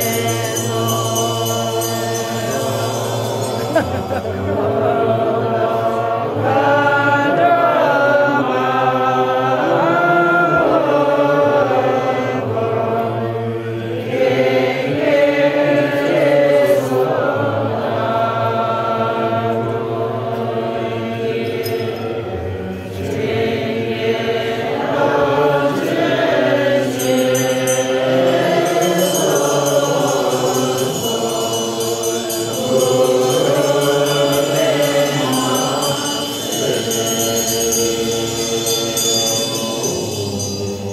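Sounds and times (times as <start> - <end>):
group chanting prayers in unison: 0.0 - 40.9.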